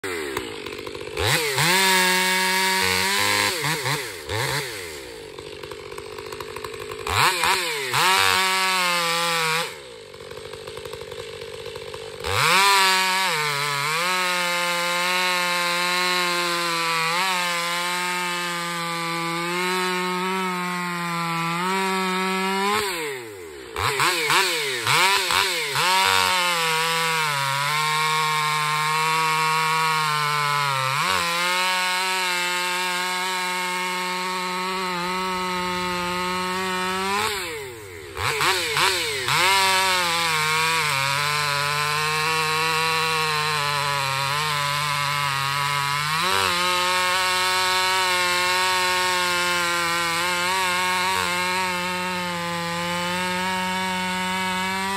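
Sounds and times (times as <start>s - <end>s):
chainsaw cutting a log: 0.0s - 54.9s.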